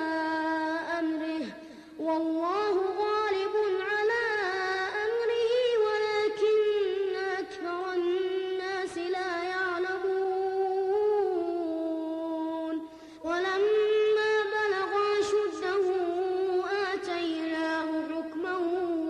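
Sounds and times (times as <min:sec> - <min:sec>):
boy reciting melodically: 0:00.0 - 0:19.0.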